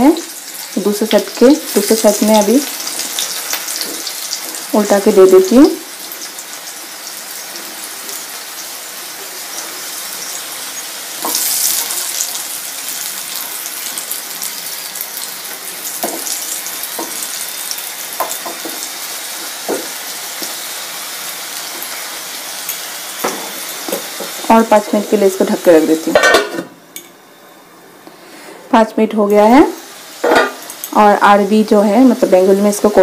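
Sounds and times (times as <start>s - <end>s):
food sizzling in hot oil: 0.0s - 27.1s, 28.4s - 33.0s.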